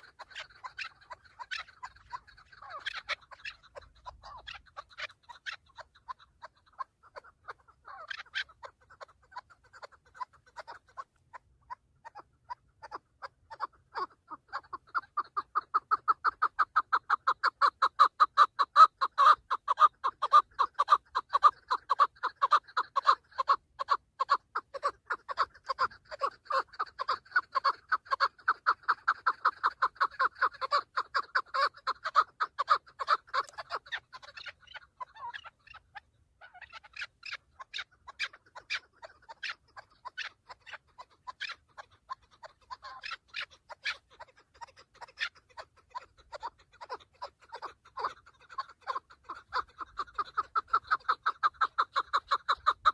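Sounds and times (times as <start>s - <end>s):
partridge clucking calls: 0.0s - 52.9s.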